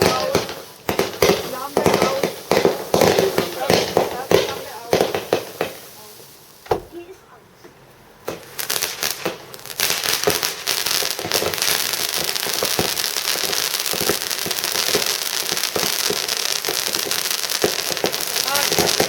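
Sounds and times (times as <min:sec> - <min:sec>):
fireworks bangs: 0:00.0 - 0:07.4, 0:08.2 - 0:19.0
fireworks crackling: 0:00.0 - 0:19.0.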